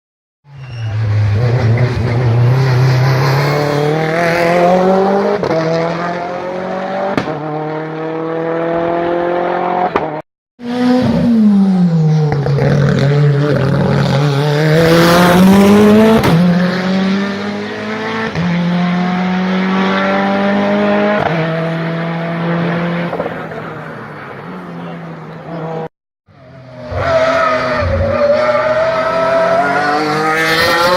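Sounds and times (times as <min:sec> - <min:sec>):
race car engine revving: 0:00.9 - 0:25.9, 0:26.6 - 0:30.9.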